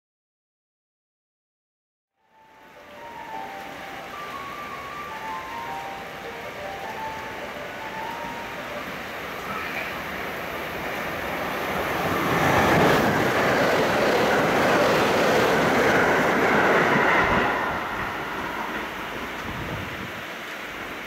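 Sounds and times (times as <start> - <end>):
electric train passing: 2.2 - 21.0
rain hiss: 2.2 - 21.0.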